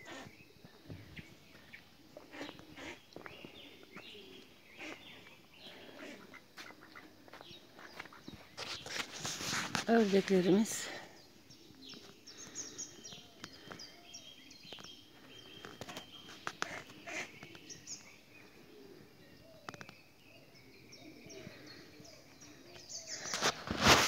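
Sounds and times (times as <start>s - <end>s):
birds chirping: 0.0s - 24.0s
lower bird calls: 0.0s - 24.0s.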